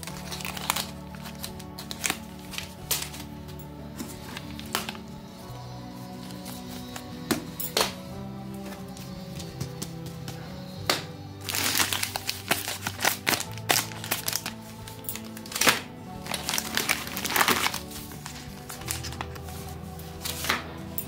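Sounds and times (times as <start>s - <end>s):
plastic wrappers crinkling: 0.0s - 5.4s, 8.6s - 21.0s
background music: 0.0s - 21.0s.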